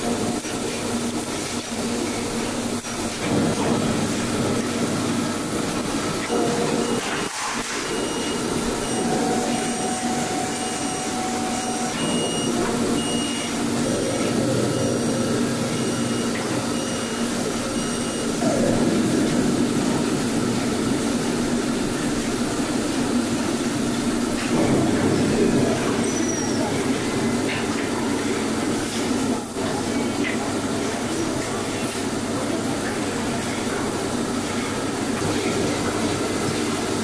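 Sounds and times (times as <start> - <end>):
machines whirring and humming: 0.0 - 37.0.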